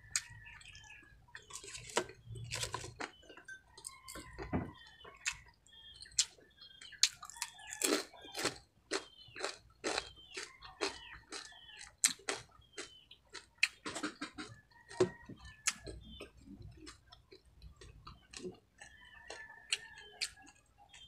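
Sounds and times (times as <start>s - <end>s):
birds calling: 0.0s - 21.0s
crunching and chewing crispy food: 0.0s - 21.0s.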